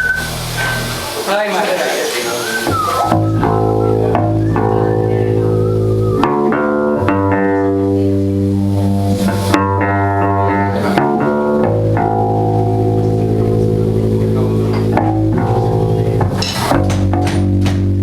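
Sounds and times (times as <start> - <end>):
bass guitar notes: 0.0 - 1.3, 2.2 - 18.0
electric guitar chords: 2.6 - 18.0.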